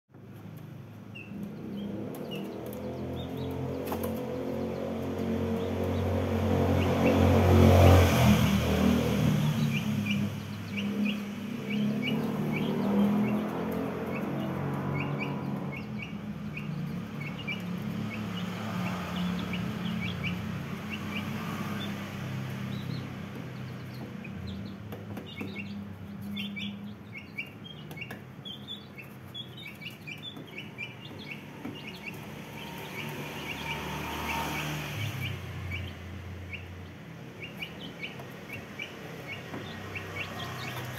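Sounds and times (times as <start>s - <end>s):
chicks peeping: 0.1s - 40.9s.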